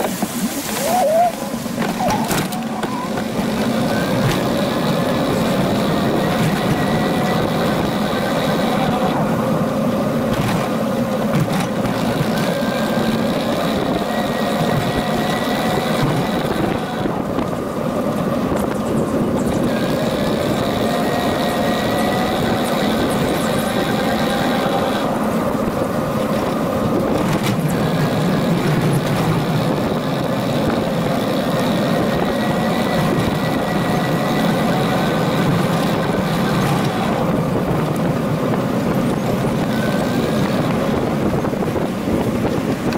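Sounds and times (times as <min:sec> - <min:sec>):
bicycle tyres on pavement: 0:00.0 - 0:42.9
wind on microphone: 0:00.0 - 0:42.9.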